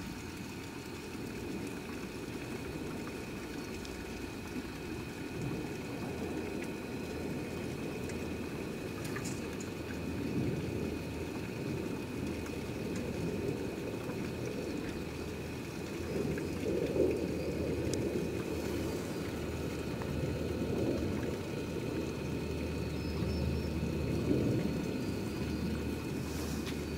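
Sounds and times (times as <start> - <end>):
low rumbling background noise: 0.0 - 26.9.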